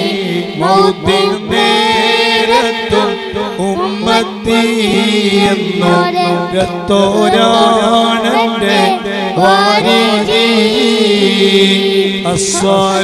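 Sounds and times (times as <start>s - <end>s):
boy singing into a microphone: 0.0s - 13.0s
steady held drone note: 0.0s - 13.0s.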